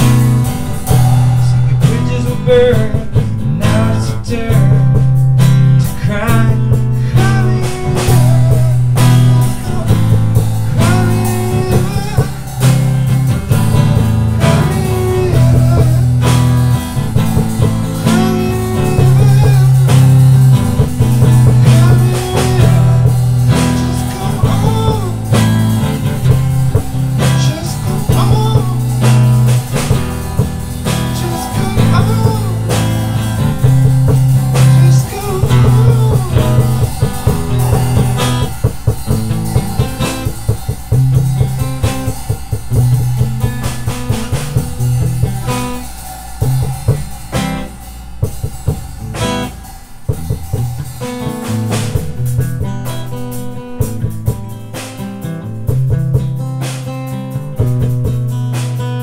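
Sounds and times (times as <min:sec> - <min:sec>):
drum kit: 0:00.0 - 0:59.0
electric guitar low riffing: 0:00.0 - 0:59.0.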